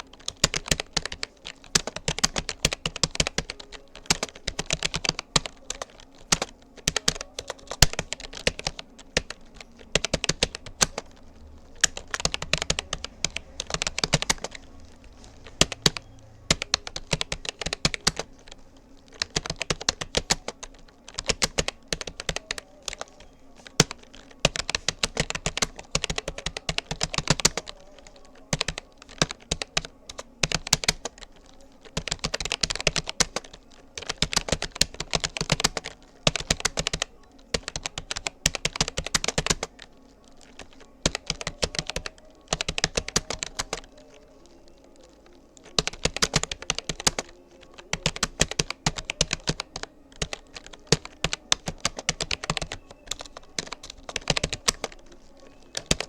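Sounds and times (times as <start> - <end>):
keyboard typing clicks: 0.0 - 56.0.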